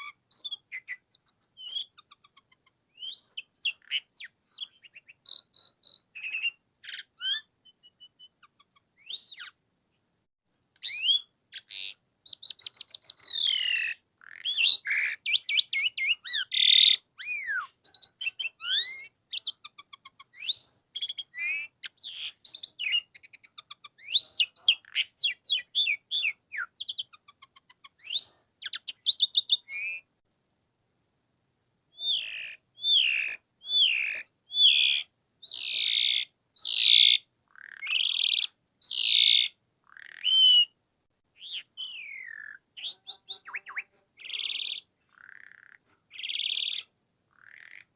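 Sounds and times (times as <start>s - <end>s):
starling singing: 0.0s - 9.6s, 10.8s - 30.1s, 31.9s - 40.8s, 41.4s - 47.9s.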